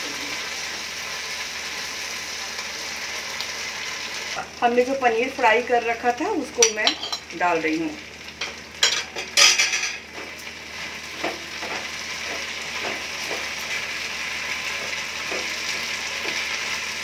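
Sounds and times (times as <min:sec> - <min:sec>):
stir-fry sizzling in a pan: 0:00.0 - 0:17.0.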